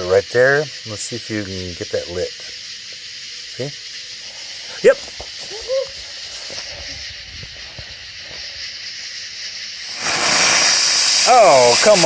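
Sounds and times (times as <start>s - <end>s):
firework hissing sparks: 0.0s - 12.0s.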